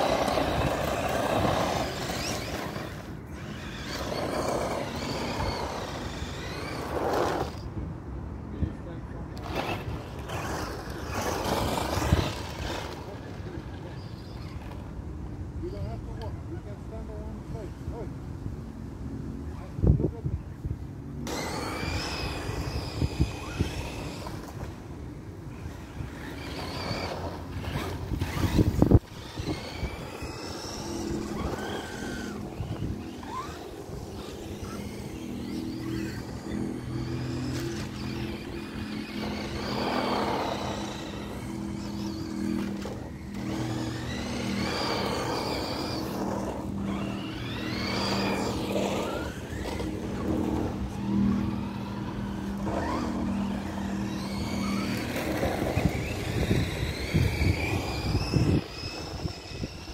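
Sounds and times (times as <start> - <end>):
toy truck motor whine: 0.0 - 7.8, 9.4 - 15.0, 21.2 - 24.8, 25.6 - 59.9
tyre and wind noise: 0.0 - 8.0, 9.4 - 15.9, 19.6 - 59.9.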